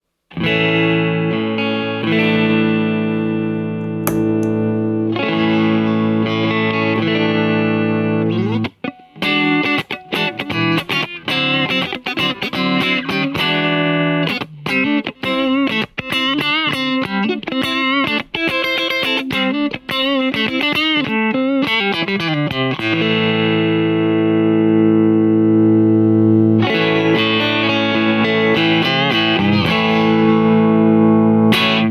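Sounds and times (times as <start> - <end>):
electric guitar picked notes: 0.3 - 31.9
electric guitar chords ringing: 0.4 - 31.9.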